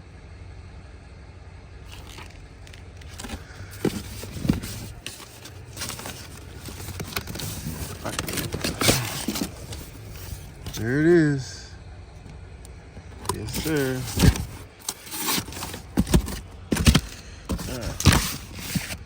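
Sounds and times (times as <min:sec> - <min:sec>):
steady low hum: 0:00.0 - 0:19.0
handling clicks knocks and scrapes: 0:01.9 - 0:10.9, 0:12.2 - 0:19.0.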